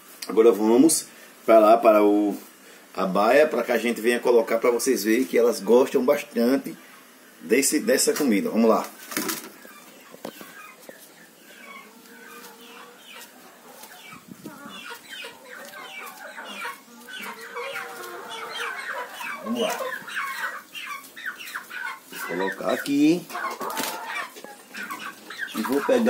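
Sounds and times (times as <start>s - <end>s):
chickens clucking: 0.2s - 26.0s.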